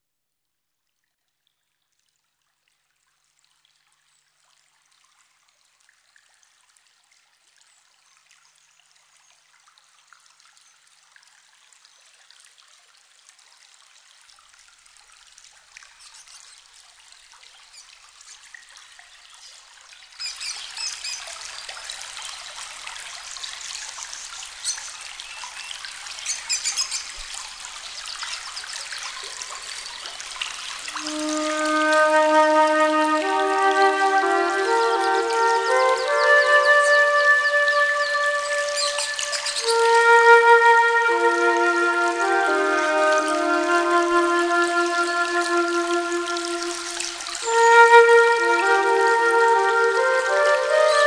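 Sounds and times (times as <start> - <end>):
water trickling down a waterfall: 0.8 - 51.0.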